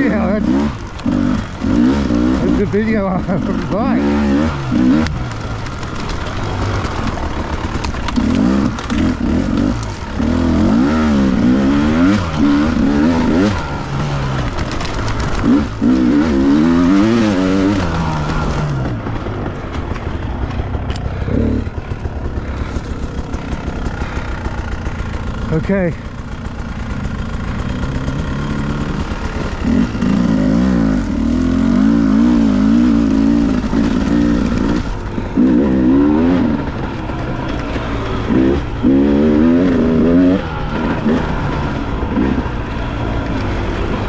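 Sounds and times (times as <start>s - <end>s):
off-road motorcycle engine revving: 0.0s - 44.0s.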